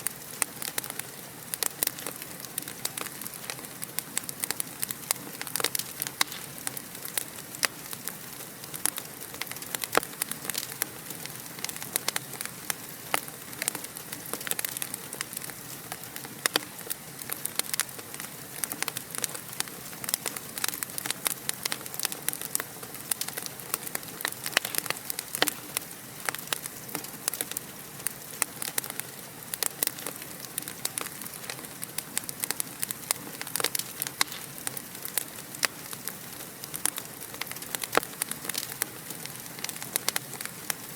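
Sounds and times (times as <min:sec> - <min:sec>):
fire crackling and popping: 0:00.0 - 0:40.9
fire hissing: 0:00.0 - 0:40.9.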